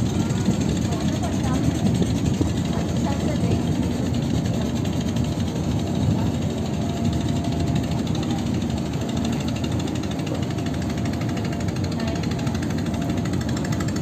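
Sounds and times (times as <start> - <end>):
ferry engine droning with rattle: 0.0 - 14.0.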